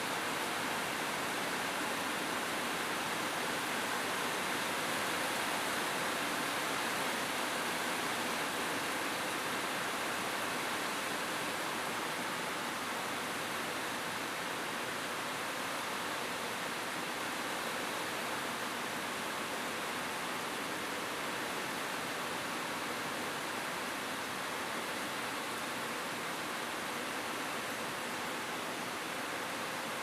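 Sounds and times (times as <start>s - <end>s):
rain falling on a roof: 0.0s - 30.0s.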